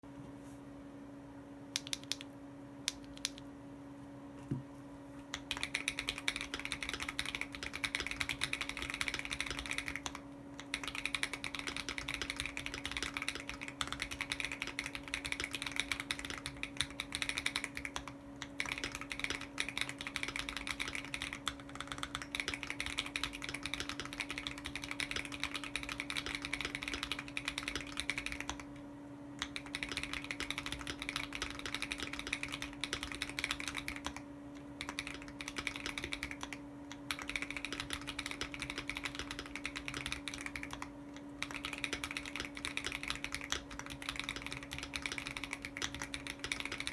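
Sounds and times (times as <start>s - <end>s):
fast typing on mechanical keyboard: 1.8s - 2.2s, 5.4s - 28.7s, 29.4s - 46.9s.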